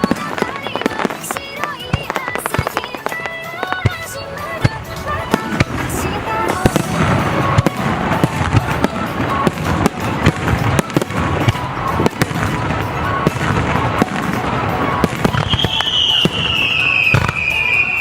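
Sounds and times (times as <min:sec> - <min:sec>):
fireworks bangs: 0:00.0 - 0:18.0
music playing: 0:00.0 - 0:18.0.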